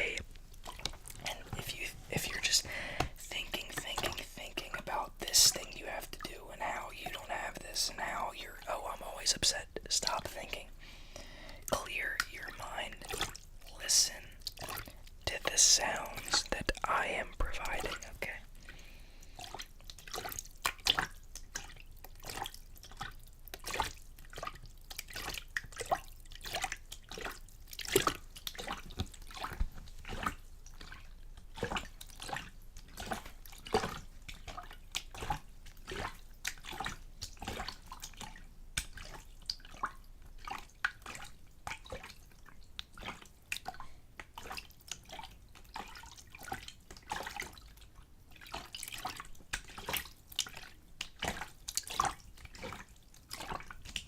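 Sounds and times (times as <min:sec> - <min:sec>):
water sloshing in a container: 0:00.0 - 0:54.0.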